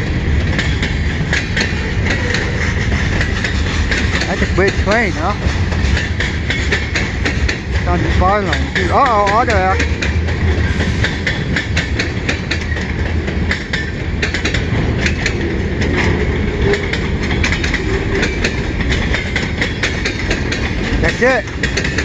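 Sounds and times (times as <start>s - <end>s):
low train rumble: 0.0s - 22.0s
train wheels clicking over rail joints: 0.0s - 22.0s.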